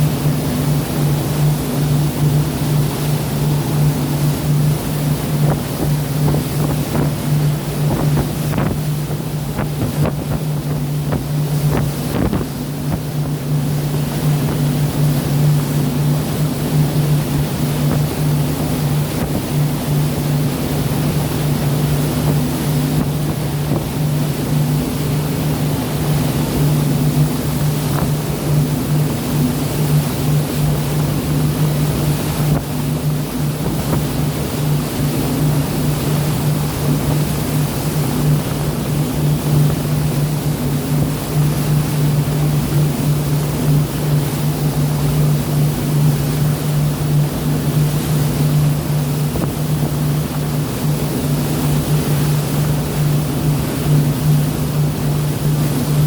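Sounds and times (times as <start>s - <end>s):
boat engine humming: 0.0s - 56.0s
sea water rushing: 0.0s - 56.0s
wind: 0.0s - 56.0s.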